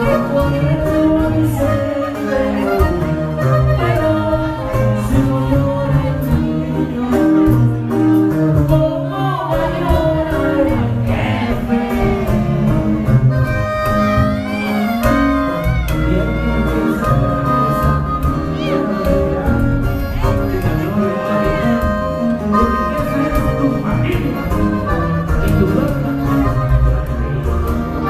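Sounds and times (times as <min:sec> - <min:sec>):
song with singing voice: 0:00.0 - 0:26.0.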